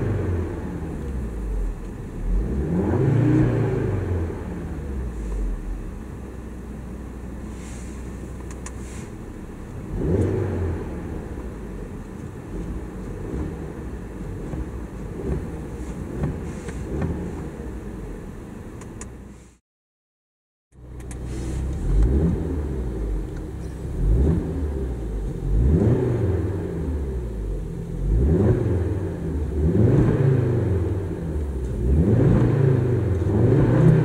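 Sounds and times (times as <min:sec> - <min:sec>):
car engine idling and revving: 0:00.0 - 0:19.6, 0:20.7 - 0:34.0.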